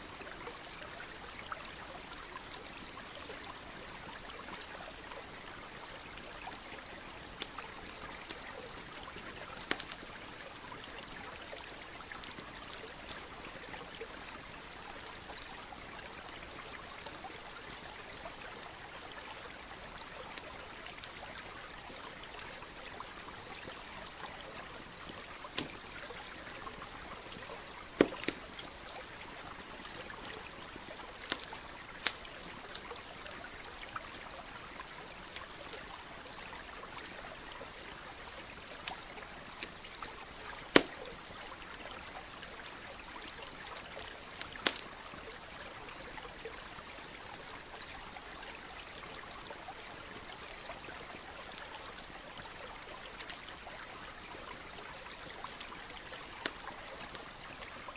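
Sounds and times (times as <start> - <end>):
campfire crackling and popping: 0.0 - 57.9
stream running: 0.0 - 57.9.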